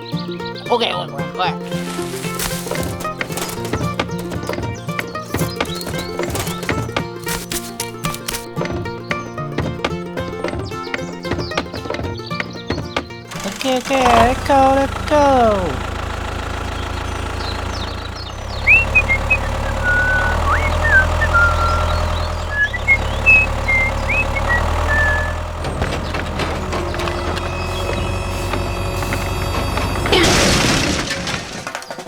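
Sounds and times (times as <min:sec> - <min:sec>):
small engine running: 0:01.4 - 0:31.6.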